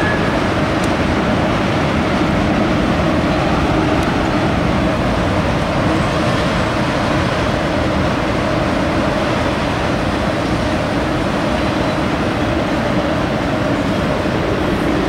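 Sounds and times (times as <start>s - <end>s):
train wheels rumbling over bridge: 0.0s - 15.0s.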